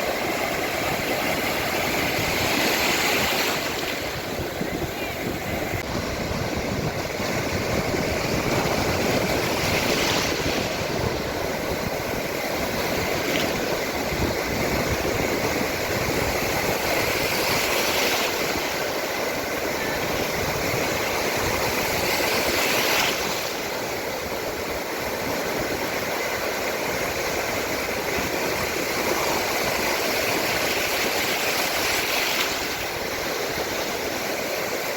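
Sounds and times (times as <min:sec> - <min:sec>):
sea waves on shore: 0:00.0 - 0:34.9.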